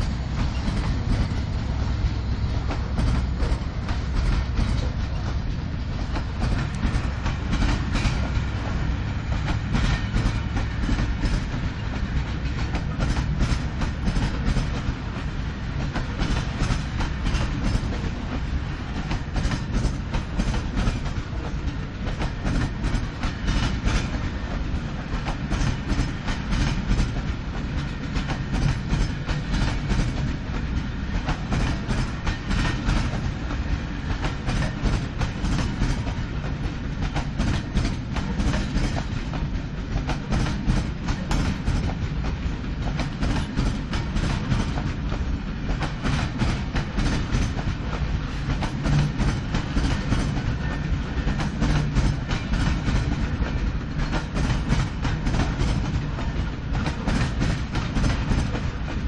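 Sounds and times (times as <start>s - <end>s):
wheels clickety-clack on joints: 0.0s - 1.5s, 2.6s - 5.4s, 6.0s - 8.7s, 9.3s - 59.0s
train wheels rumbling on rails: 0.0s - 59.0s.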